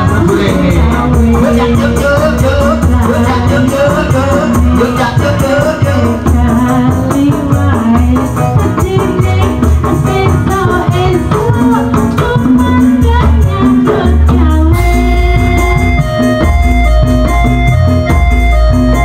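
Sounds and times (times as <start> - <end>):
woman singing through loudspeakers: 0.0 - 15.3
keyboard backing music: 0.0 - 19.0
organ chords: 0.0 - 19.0.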